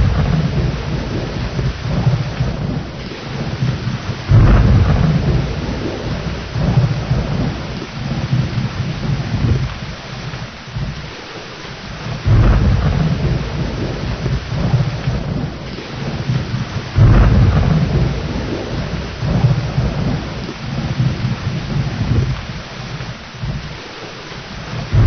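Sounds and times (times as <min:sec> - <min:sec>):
heavy rain: 0:00.0 - 0:25.0
thunder rumbling: 0:00.0 - 0:25.0.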